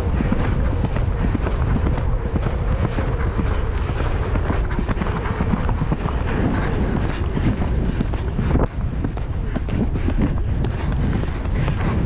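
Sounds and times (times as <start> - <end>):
horse hoofbeats galloping: 0.0 - 12.0
wind rumble on microphone: 0.0 - 12.0.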